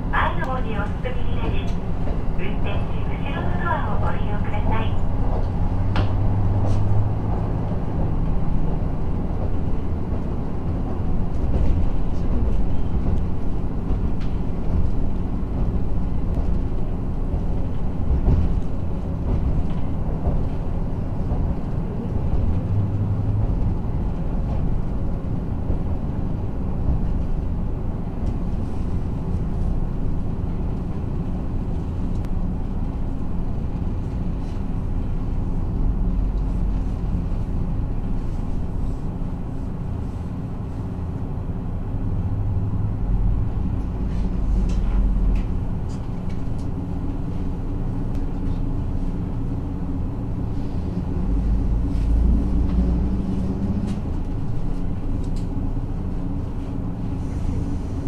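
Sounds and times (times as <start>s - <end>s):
railcar engine drone: 0.0s - 58.0s.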